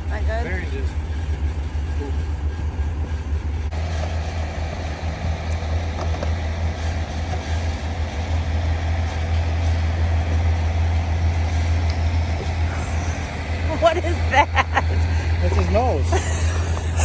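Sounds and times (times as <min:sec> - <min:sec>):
diesel engine idling: 0:00.0 - 0:17.0
higher hum: 0:00.0 - 0:17.0.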